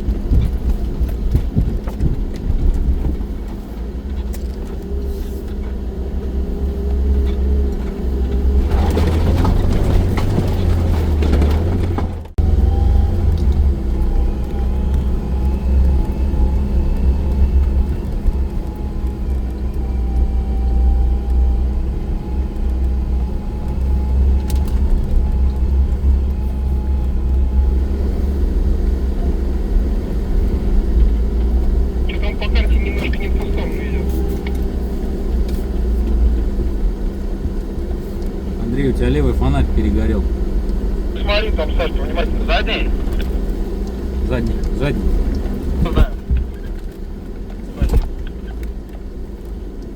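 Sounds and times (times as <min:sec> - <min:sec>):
off-road vehicle engine rumbling: 0:00.0 - 0:49.9.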